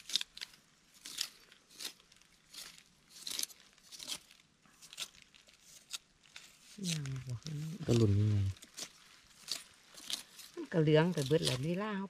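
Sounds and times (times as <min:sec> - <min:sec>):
knife crunching through tuber: 0:00.0 - 0:11.8.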